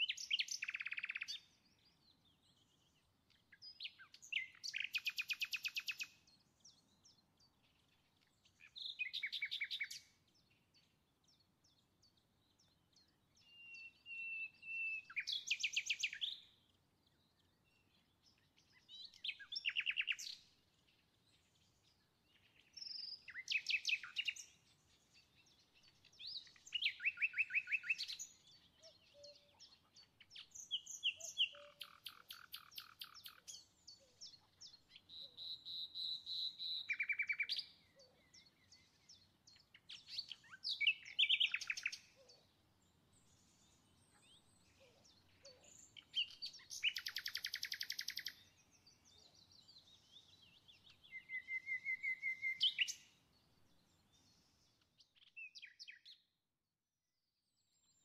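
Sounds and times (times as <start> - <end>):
songbird chirping and trilling: 0.0 - 56.5, 57.4 - 58.0.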